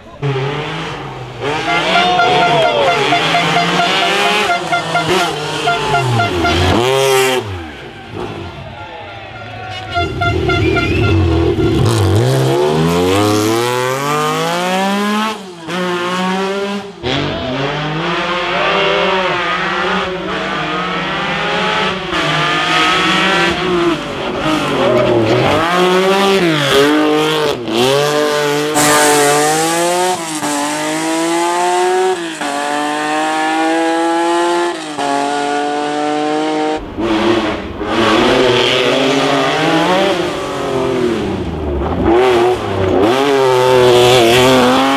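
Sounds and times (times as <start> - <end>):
rally car engine revving: 0.0 - 8.8, 9.7 - 44.9.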